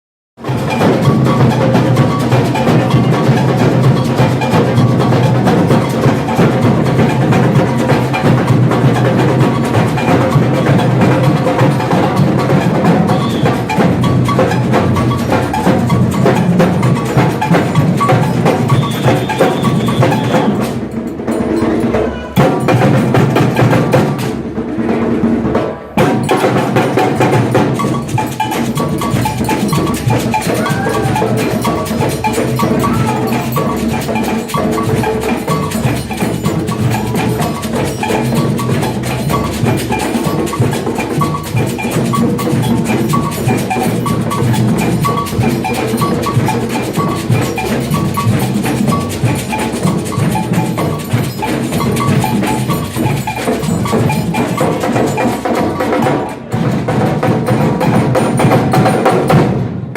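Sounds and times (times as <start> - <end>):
samba percussion band drumming: 0.4 - 59.9.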